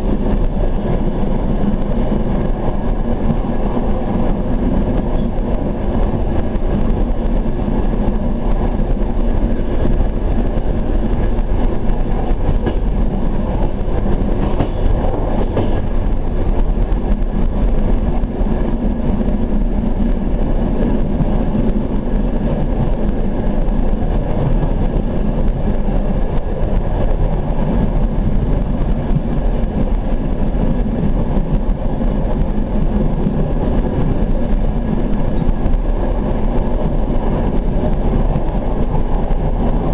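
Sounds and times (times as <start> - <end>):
train carriage rumble and rattle: 0.0 - 39.9.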